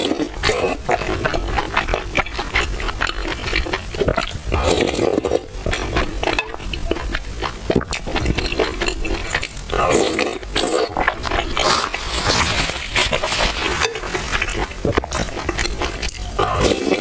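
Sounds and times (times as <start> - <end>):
chewing: 0.0 - 17.0
slurping: 0.0 - 17.0.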